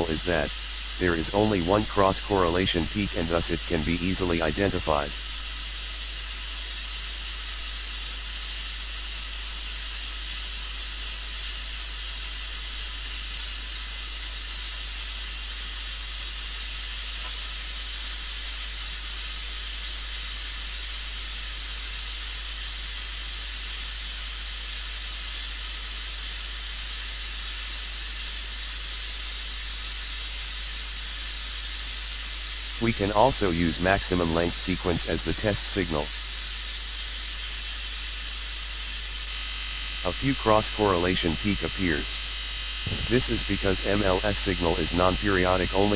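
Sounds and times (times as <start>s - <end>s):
white noise hiss: 0.0s - 45.9s.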